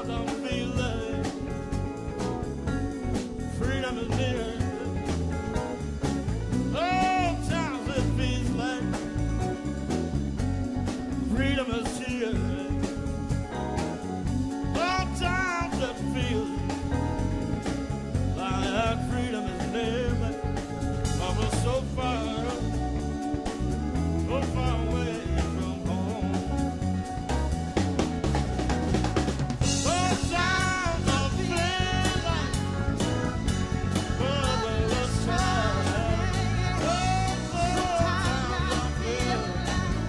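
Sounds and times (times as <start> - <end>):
drums: 0.0 - 40.0
live blues band playing: 0.0 - 40.0
wavering lead melody: 0.0 - 40.0.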